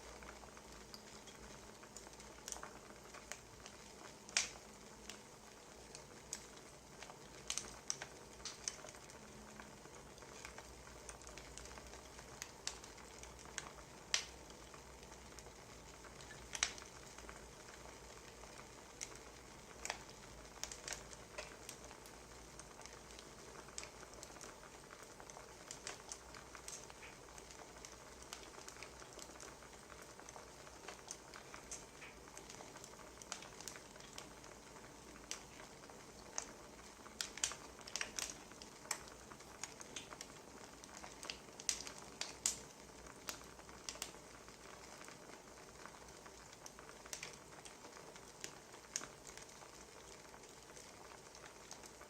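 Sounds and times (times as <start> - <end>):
wood fire crackling faintly: 0.0 - 52.0.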